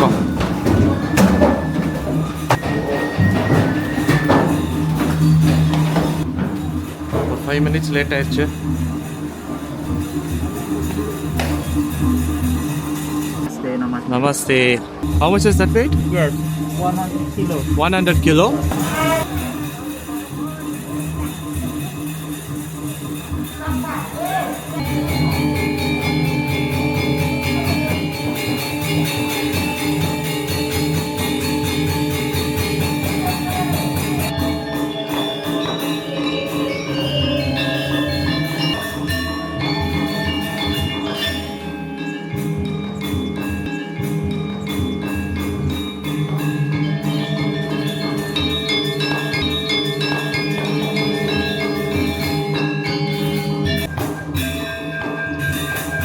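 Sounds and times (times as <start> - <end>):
gamelan ensemble playing: 0.0 - 14.0, 15.0 - 56.0.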